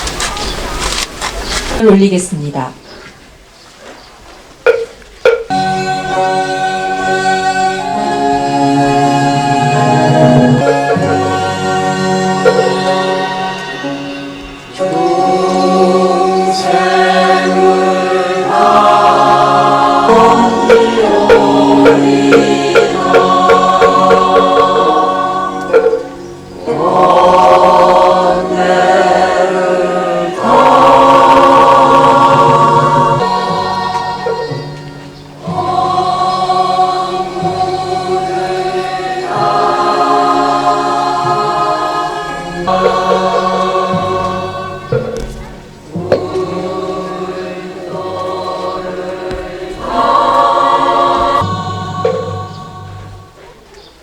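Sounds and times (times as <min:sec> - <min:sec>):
choir singing a hymn: 0:04.7 - 0:53.6
musical accompaniment: 0:04.7 - 0:53.6.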